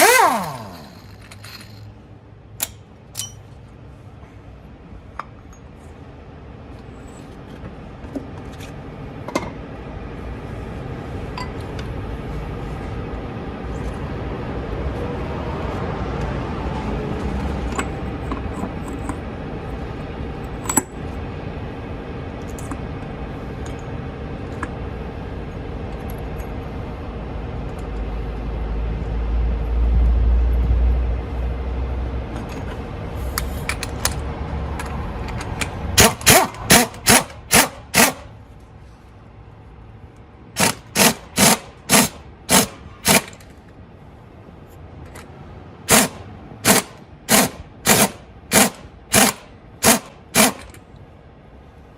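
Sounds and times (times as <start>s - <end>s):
steady background hum: 0.0s - 51.9s.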